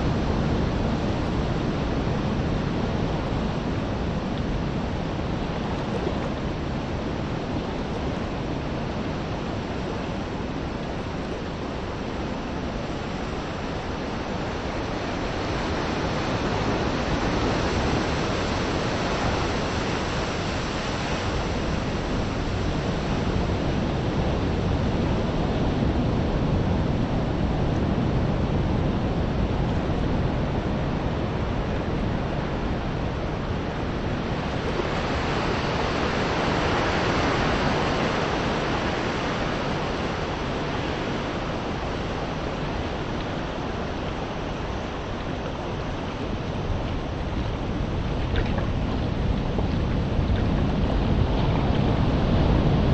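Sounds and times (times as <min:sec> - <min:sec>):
wind: 0:00.0 - 0:52.9.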